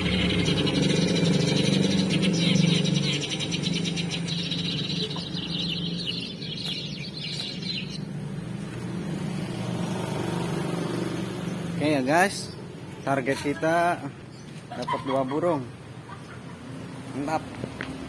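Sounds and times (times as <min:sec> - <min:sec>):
sparrows chirping chatter: 0:00.0 - 0:18.0.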